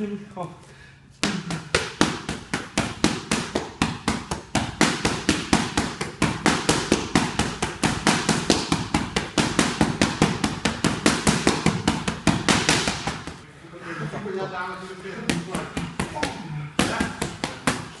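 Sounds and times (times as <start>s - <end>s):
boxing gloves smacking mitts: 1.2s - 13.4s, 15.2s - 18.0s.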